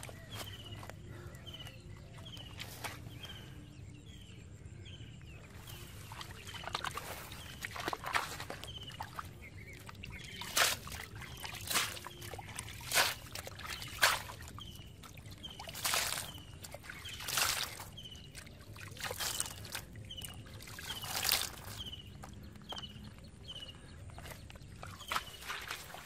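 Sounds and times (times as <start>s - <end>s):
mud and water squelching: 0.0s - 3.6s, 5.2s - 26.0s.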